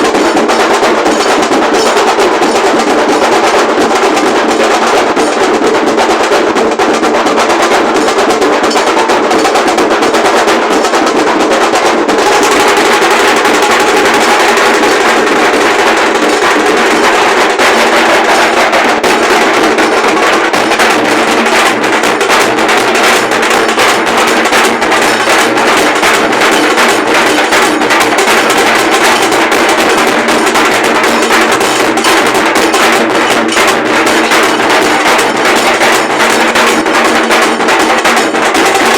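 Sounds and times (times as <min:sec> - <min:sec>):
dhol drums playing: 0:00.0 - 0:38.9.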